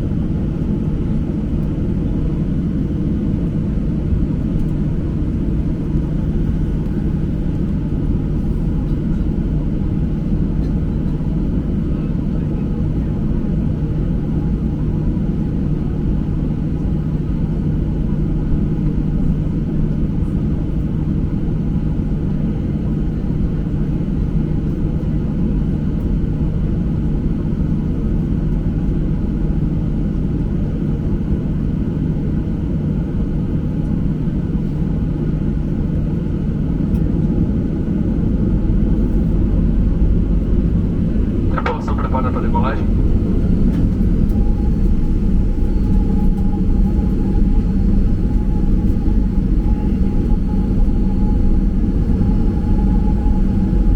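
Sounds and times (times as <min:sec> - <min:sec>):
airliner cabin engine hum: 0:00.0 - 0:53.9.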